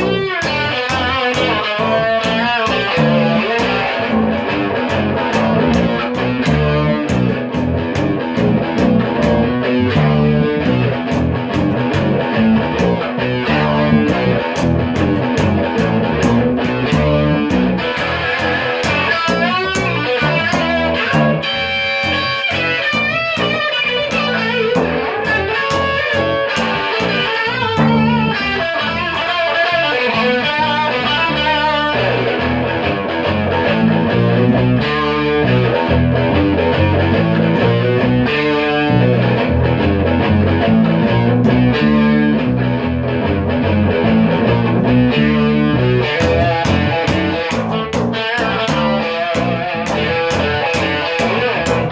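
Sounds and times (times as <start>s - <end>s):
bass and drum beat: 0.0s - 51.9s
distorted electric guitar: 0.0s - 51.9s.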